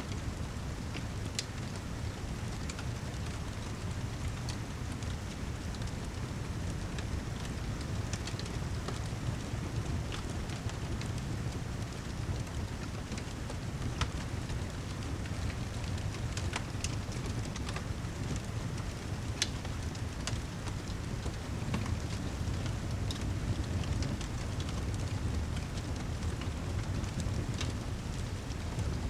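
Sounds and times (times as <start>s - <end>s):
steady rain: 0.0s - 29.0s
fireplace crackling and popping: 0.1s - 29.0s.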